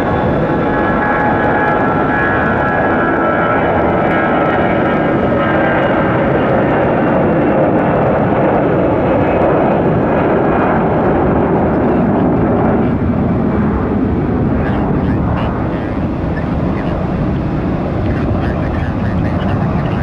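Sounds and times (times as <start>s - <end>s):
faint jet engine whine: 0.0s - 20.0s
jet engine roar: 0.0s - 20.0s.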